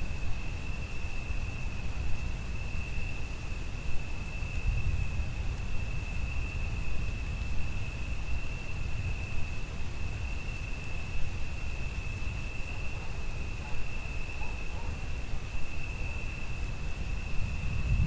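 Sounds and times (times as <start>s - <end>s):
crickets chirping: 0.0s - 18.0s
rain hiss: 0.0s - 18.0s.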